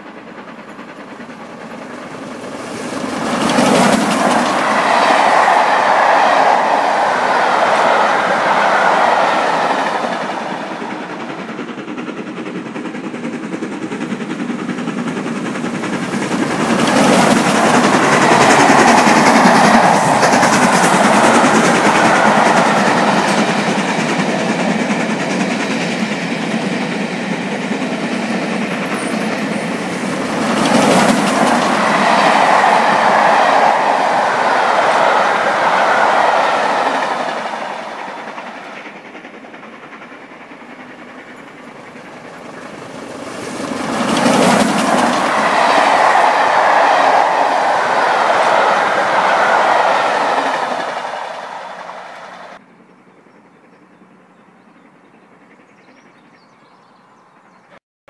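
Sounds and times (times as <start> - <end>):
steam trains passing: 0.0 - 57.8.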